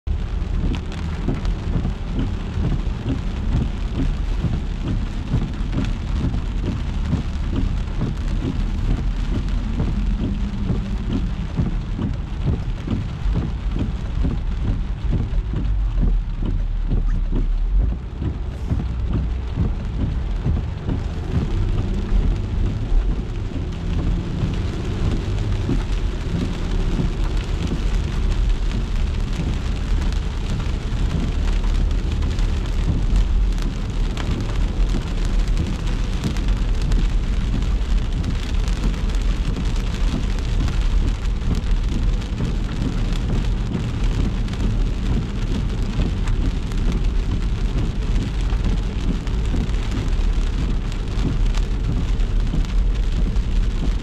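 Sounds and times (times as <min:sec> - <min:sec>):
car and road rumble: 0:00.0 - 0:54.0
raindrops hitting car: 0:00.0 - 0:54.0
rain hiss: 0:00.1 - 0:54.0.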